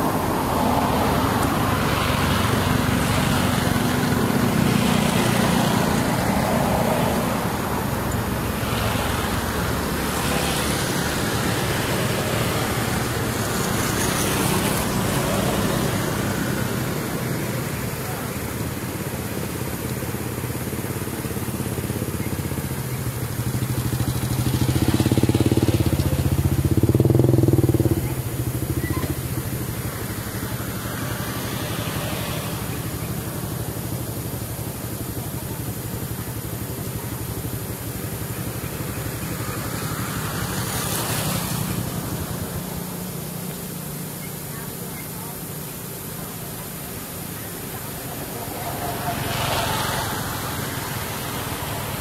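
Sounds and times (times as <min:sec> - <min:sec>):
engine running: 0:00.0 - 0:52.0.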